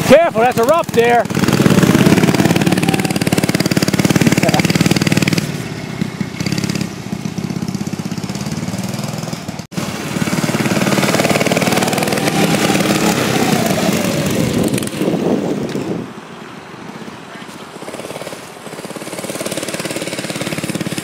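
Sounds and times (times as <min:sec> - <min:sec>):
mini bike engine revving: 0:00.0 - 0:16.1, 0:17.3 - 0:21.0.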